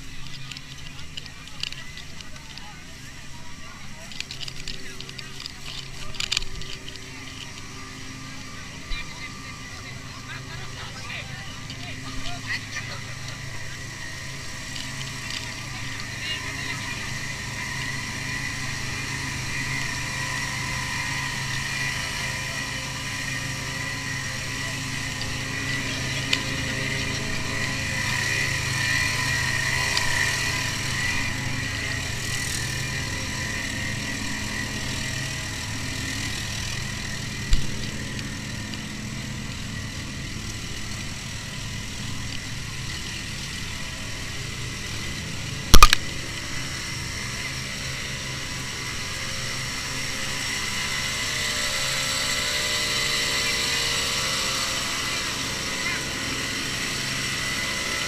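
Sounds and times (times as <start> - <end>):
vehicle engine and road noise: 0.0 - 56.0
steady high whine: 0.0 - 58.0.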